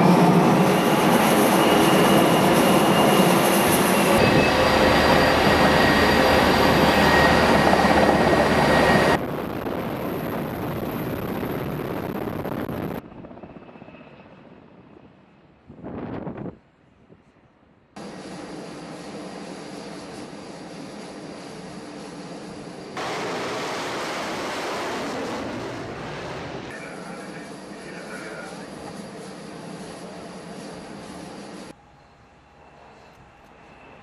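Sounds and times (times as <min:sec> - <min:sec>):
jet fighter engine noise: 0:00.0 - 0:16.6, 0:18.0 - 0:34.0.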